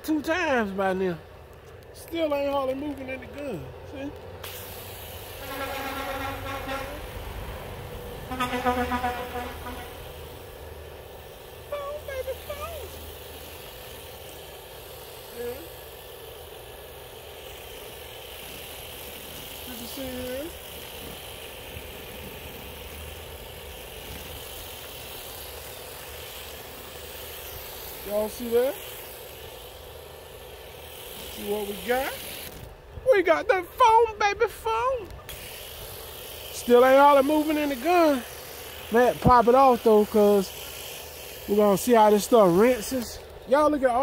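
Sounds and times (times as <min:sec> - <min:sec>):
foam gun spraying: 0:02.6 - 0:33.1, 0:33.8 - 0:44.0.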